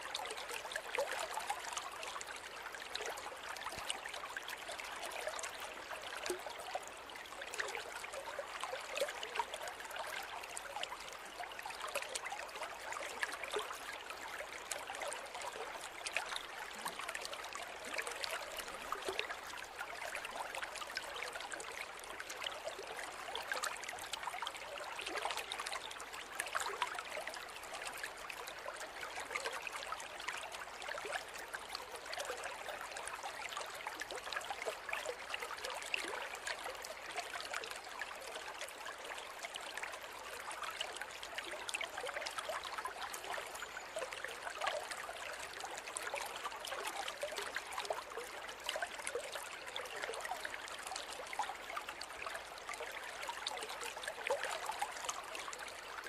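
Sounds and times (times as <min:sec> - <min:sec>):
river water flowing over stones: 0:00.0 - 0:56.0.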